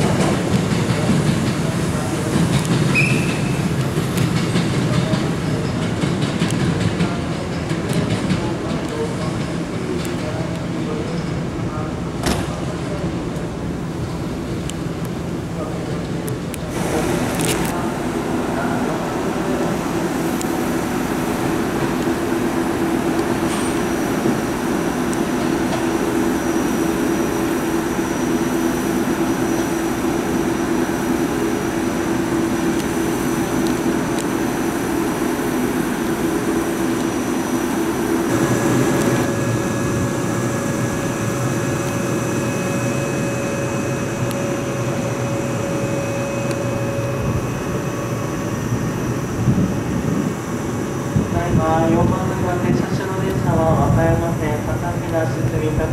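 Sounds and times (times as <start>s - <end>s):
electric train humming: 0.0s - 55.9s.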